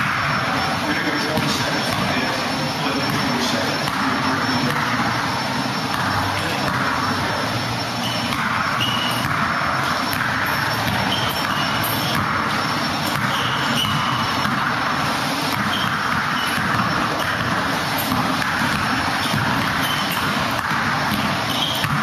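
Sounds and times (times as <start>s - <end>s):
loud rushing noise: 0.0s - 21.5s
basketball dribbling: 0.0s - 22.0s
sneaker squeaks: 0.0s - 22.0s.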